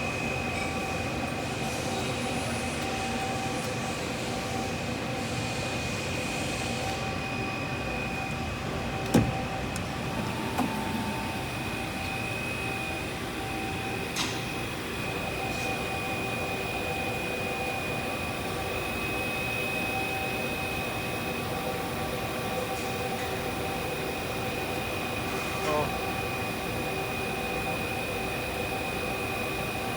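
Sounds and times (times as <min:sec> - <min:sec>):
machining center hum and whine: 0:00.0 - 0:29.9.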